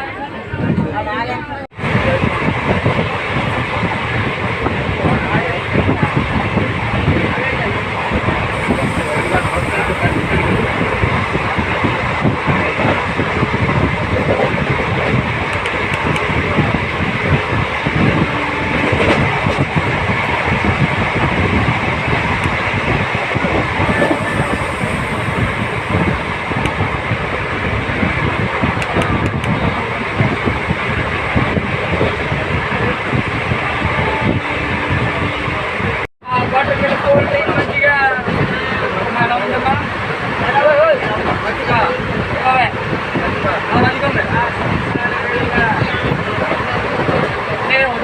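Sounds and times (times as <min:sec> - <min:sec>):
train wheels rumbling on rails: 0:01.8 - 0:48.0.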